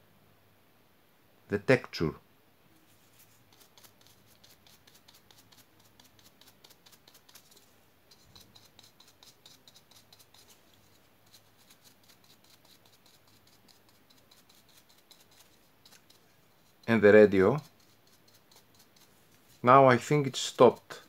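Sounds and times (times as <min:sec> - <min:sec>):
brush bristles scratching resin: 0:02.8 - 0:21.0.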